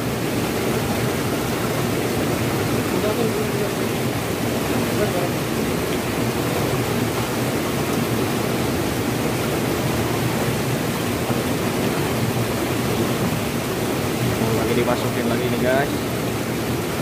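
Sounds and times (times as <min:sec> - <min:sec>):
river rushing past rocks: 0:00.0 - 0:17.0.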